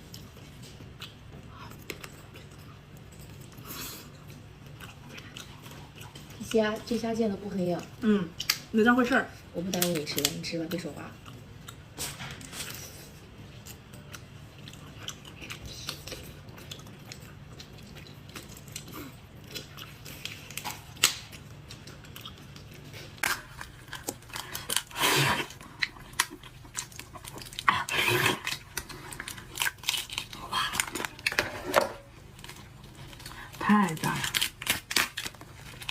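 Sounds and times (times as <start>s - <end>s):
wet chewing: 0.0s - 8.7s, 9.4s - 35.9s.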